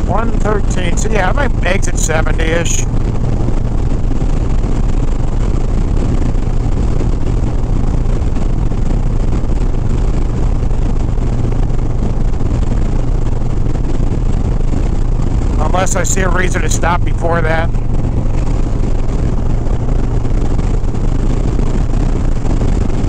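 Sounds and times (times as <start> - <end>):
motorcycle engine droning: 0.0 - 23.0
wind and road noise: 0.0 - 23.0.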